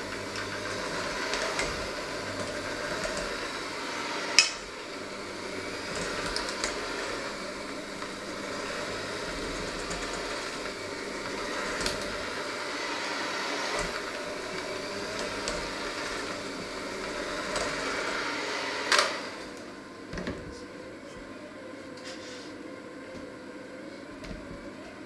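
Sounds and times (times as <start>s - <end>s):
electric hand mixer running: 0.0s - 25.0s.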